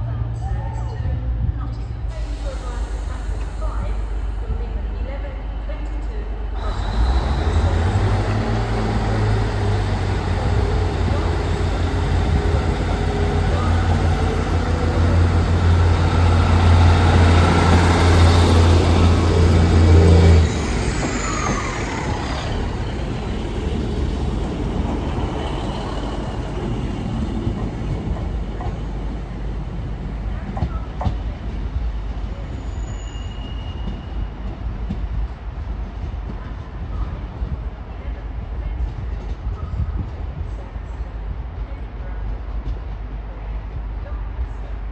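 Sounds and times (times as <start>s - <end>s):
diesel train engine hum: 0.0s - 39.2s
train rumble: 0.0s - 44.9s.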